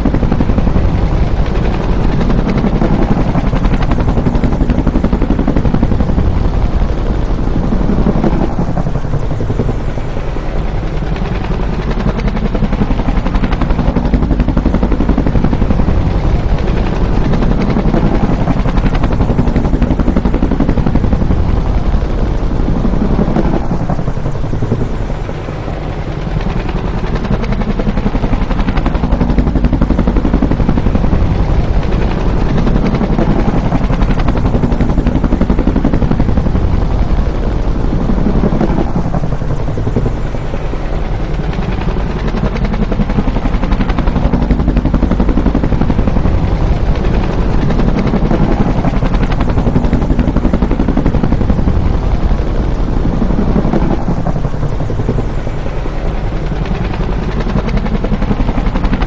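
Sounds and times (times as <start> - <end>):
helicopter engine noise: 0.0 - 59.0
helicopter rotor beating: 0.0 - 59.0.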